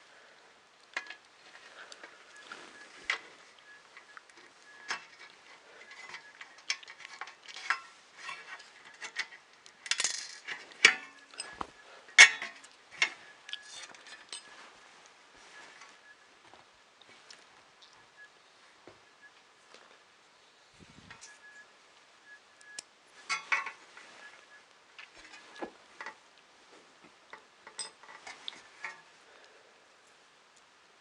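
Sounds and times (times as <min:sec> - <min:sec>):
faint steady high tone: 0:00.0 - 0:09.4, 0:10.5 - 0:26.2.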